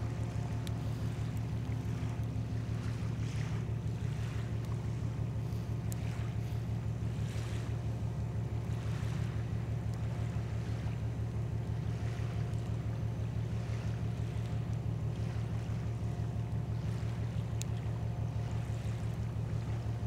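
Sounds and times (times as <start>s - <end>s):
boat diesel engine running: 0.0s - 20.0s
faint wind: 0.0s - 20.0s.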